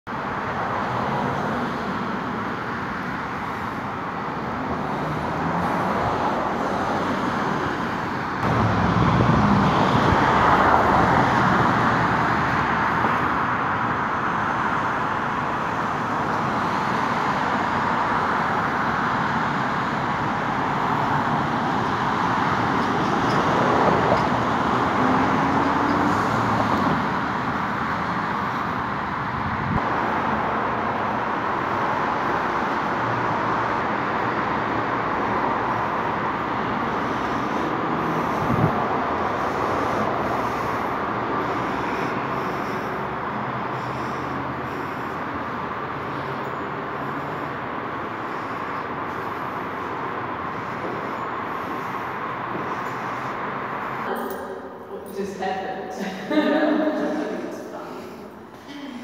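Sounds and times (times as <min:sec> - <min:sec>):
passing cars hum: 0:00.1 - 0:59.0.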